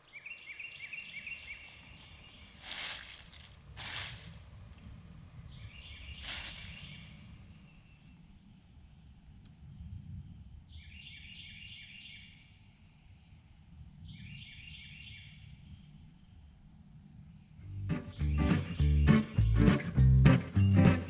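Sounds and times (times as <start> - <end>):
songbird singing: 0.0 - 13.4, 14.0 - 21.0
faint low outdoor rumble: 0.0 - 21.0.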